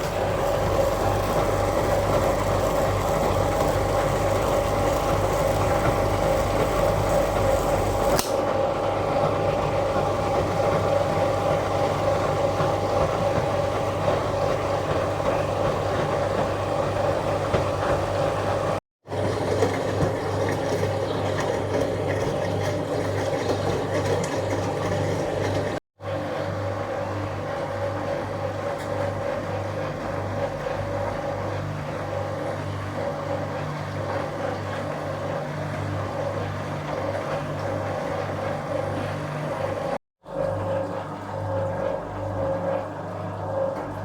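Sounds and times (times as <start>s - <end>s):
washing machine hum: 0.0s - 44.0s.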